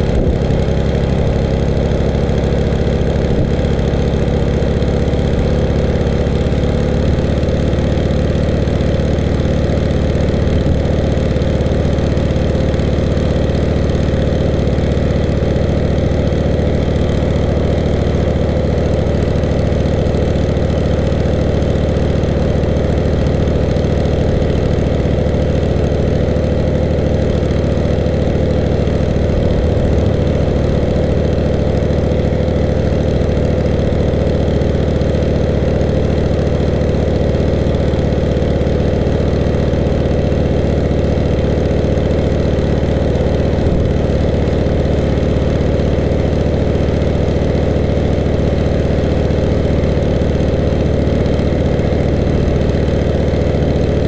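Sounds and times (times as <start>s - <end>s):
pressure washer engine running: 0.0s - 54.0s.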